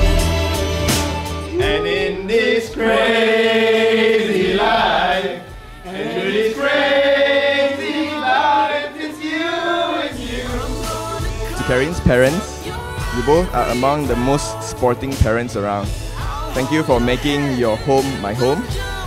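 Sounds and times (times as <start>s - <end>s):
choir-like vocals in held notes: 0.0s - 19.0s.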